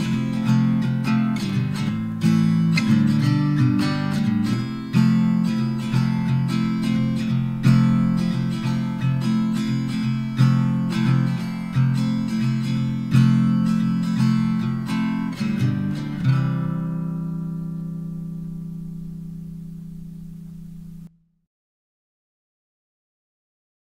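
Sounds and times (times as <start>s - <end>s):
acoustic guitar chords: 0.0s - 21.2s.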